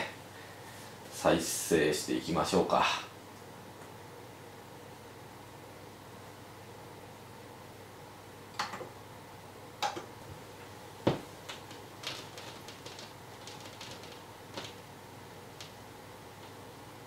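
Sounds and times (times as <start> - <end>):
vinyl record hiss: 0.0 - 17.0.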